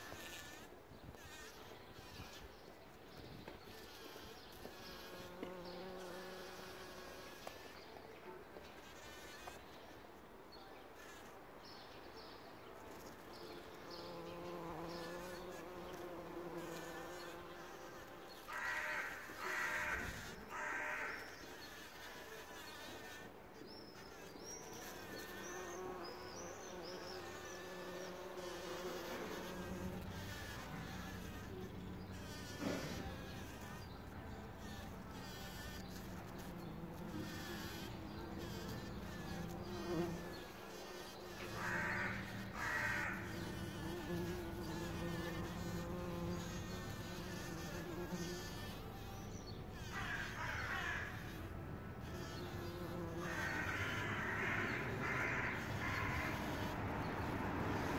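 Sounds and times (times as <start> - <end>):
bumblebees buzzing: 3.5 - 8.0, 11.0 - 57.9.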